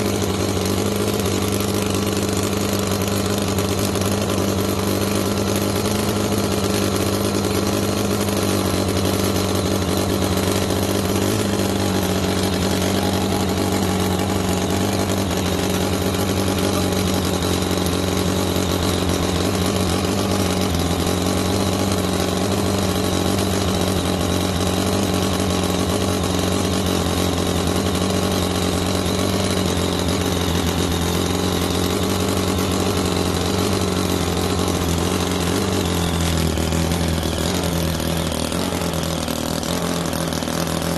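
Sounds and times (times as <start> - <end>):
model engine running at high speed: 0.0 - 40.9.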